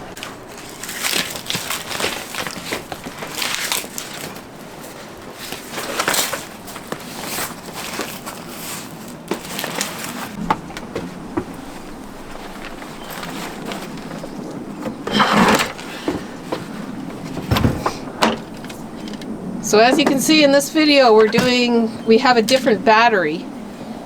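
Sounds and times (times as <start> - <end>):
rustling and crunching material: 0.0 - 24.0.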